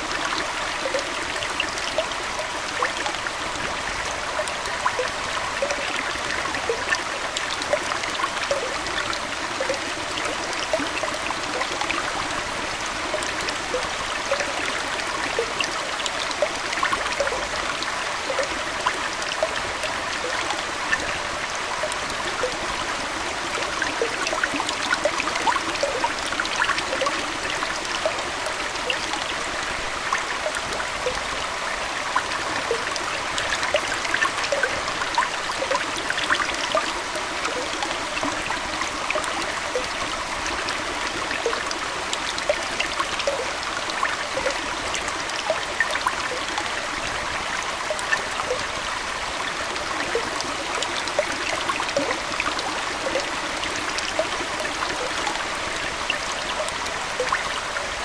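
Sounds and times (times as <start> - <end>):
aquarium water trickling: 0.0 - 58.0
water bubbling plinks: 0.0 - 58.0.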